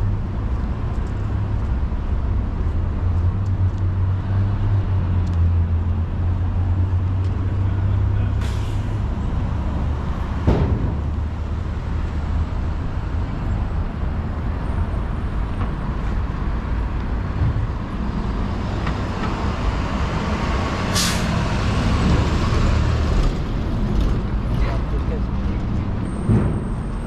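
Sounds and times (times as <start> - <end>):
heavy vehicle engine rumbling: 0.0 - 27.0
road noise: 0.0 - 27.0.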